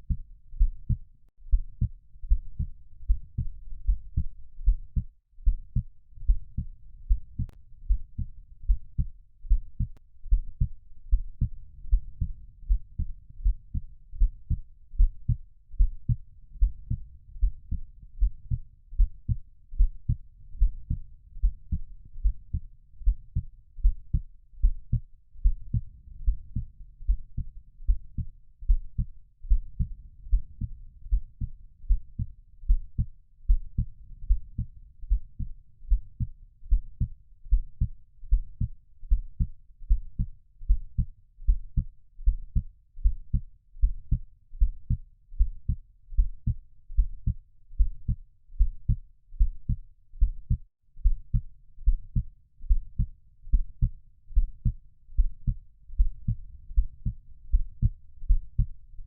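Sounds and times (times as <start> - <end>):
heartbeat thumps: 0.0 - 58.8
faint low rumble: 0.0 - 59.0.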